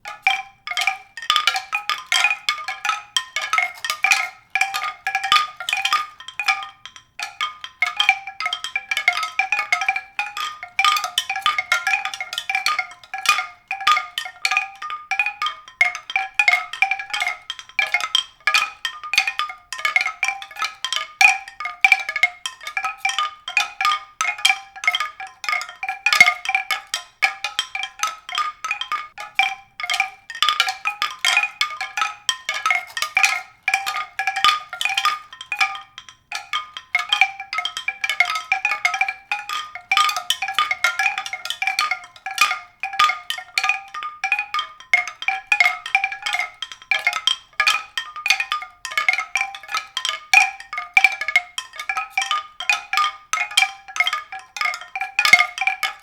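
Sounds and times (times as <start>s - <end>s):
mallet percussion notes: 0.0s - 56.0s.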